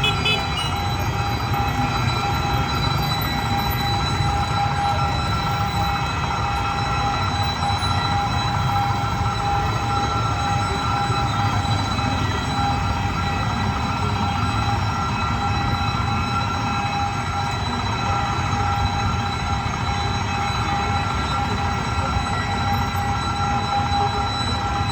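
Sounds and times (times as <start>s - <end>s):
high ringing tones: 0.0s - 24.9s
train carriages rumbling on track: 0.0s - 24.9s.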